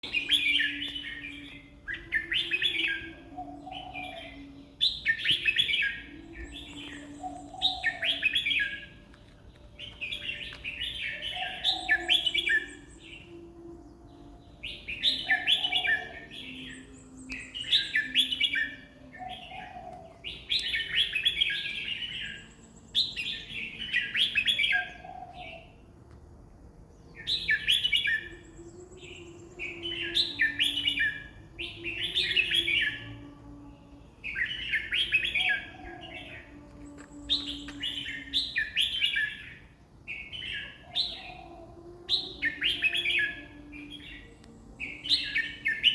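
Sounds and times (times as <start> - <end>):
bird singing warbled phrases: 0.0 - 25.9, 26.8 - 45.9.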